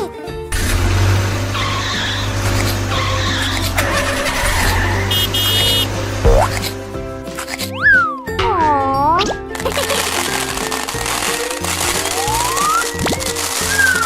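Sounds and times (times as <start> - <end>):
children's background music: 0.0 - 14.0
cartoon car engine running: 0.5 - 6.8, 8.6 - 14.0
tyres skidding: 0.5 - 8.8, 9.4 - 14.0.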